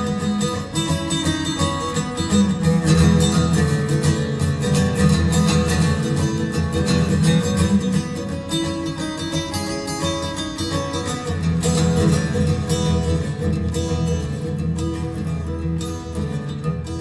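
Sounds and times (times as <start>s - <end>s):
live guitar music: 0.0s - 17.0s.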